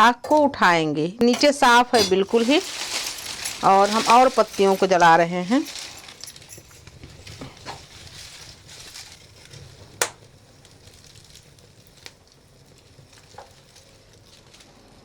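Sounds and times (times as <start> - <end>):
dried leaves crackling in flame: 1.4 - 15.0.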